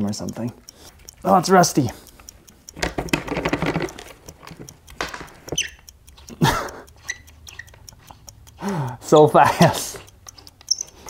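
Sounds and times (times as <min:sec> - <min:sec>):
bolts squeaking and clicking: 0:00.0 - 0:11.0.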